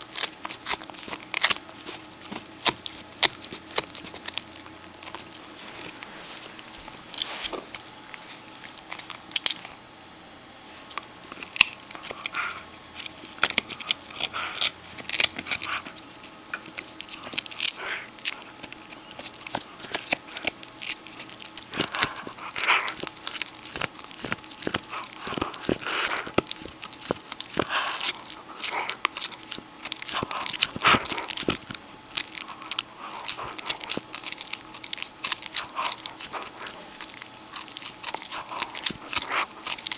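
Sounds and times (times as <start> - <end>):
puppy gnawing a chew: 0.0 - 39.9.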